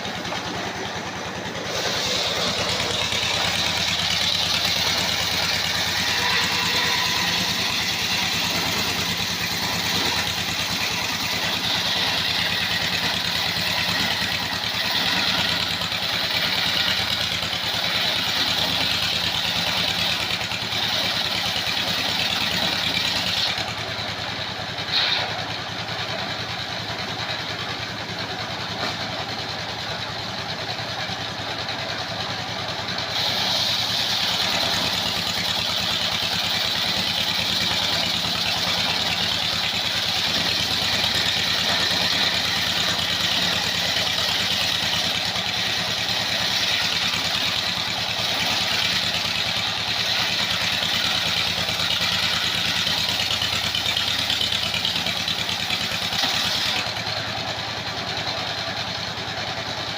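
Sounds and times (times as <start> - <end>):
circular saw running: 0.0 - 59.9.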